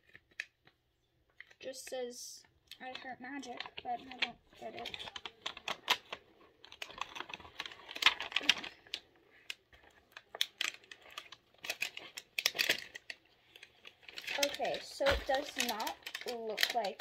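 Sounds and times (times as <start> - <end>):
plastic toy parts clicking: 2.7 - 17.0
packaging crinkling: 2.8 - 17.0.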